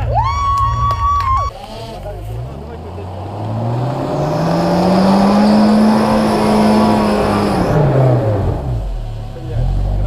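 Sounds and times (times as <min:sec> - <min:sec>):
engine revving hard: 0:01.5 - 0:10.0.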